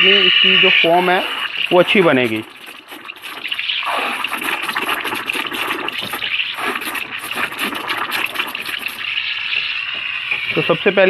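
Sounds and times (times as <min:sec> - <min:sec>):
steam wand bubbling and hissing: 0:00.0 - 0:11.0.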